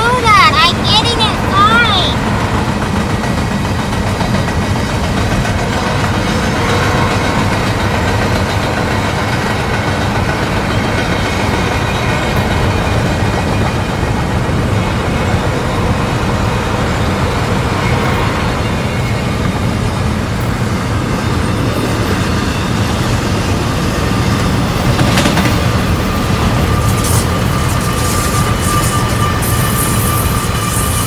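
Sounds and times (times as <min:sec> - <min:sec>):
freight train rumbling: 0:00.0 - 0:31.0.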